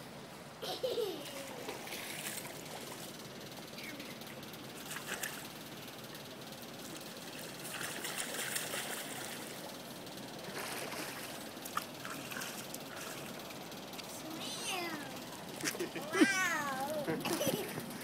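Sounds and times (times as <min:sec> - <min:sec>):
pool water lapping and splashing: 0:01.1 - 0:18.0.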